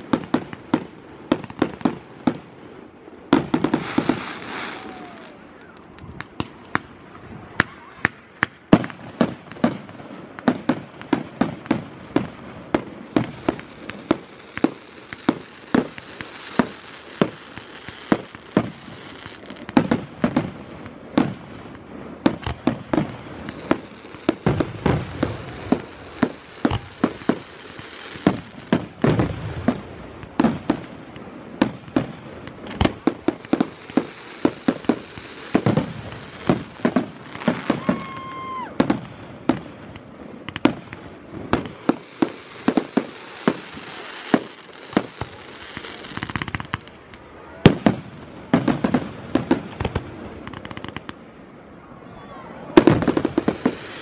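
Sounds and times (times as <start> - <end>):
fireworks crackling hiss: 0.0 - 51.3, 52.8 - 54.0
fireworks bangs: 3.2 - 51.3, 52.6 - 54.0.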